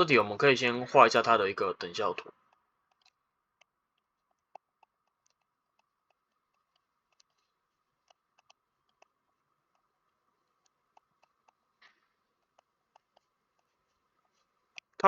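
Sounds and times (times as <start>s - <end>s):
stylus clicking on drawing tablet: 2.0s - 15.0s.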